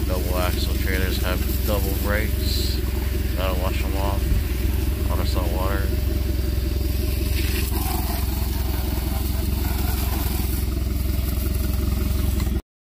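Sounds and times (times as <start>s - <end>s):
engine low drone: 0.0s - 12.6s
hose spraying water on boat hull: 0.0s - 12.6s.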